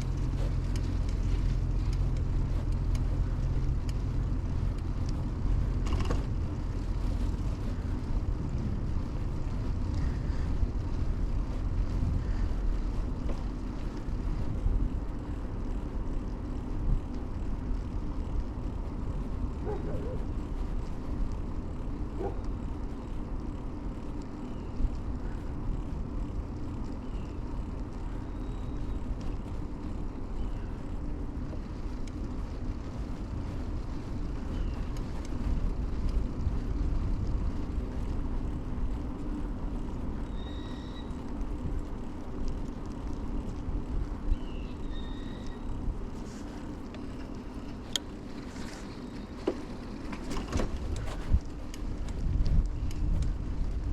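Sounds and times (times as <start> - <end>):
bicycle tyres rolling on pavement: 0.0 - 53.9
wind noise: 0.0 - 53.9.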